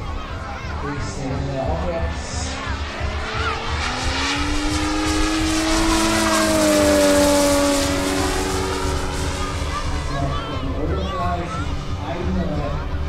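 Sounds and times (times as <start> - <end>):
model plane engine flying past: 1.0 - 13.0.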